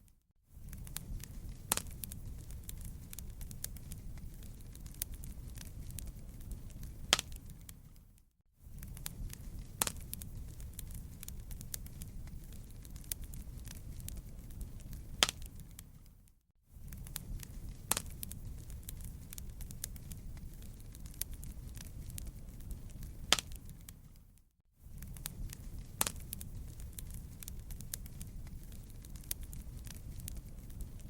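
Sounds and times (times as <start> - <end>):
flames low rumble: 0.5 - 31.0
wood fire pops and snaps: 0.6 - 16.2, 16.8 - 31.0.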